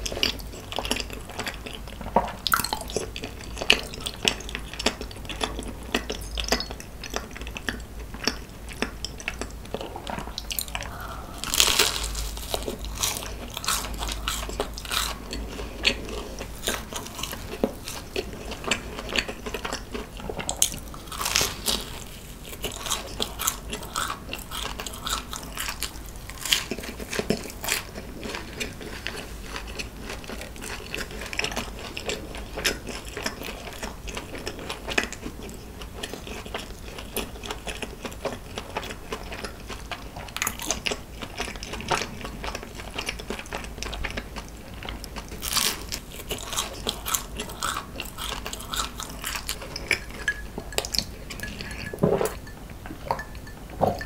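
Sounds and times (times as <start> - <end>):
close biting and chewing: 0.0 - 52.4.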